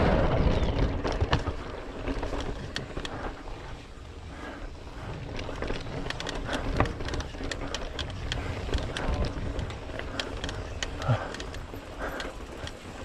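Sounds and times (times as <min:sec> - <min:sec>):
bike clicks and rattles: 0:00.0 - 0:13.0.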